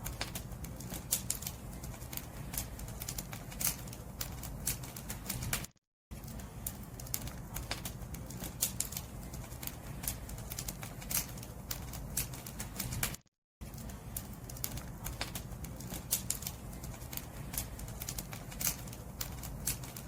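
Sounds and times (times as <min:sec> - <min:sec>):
bonfire crackling and popping: 0:00.0 - 0:20.0
low fire rumble: 0:00.0 - 0:20.0.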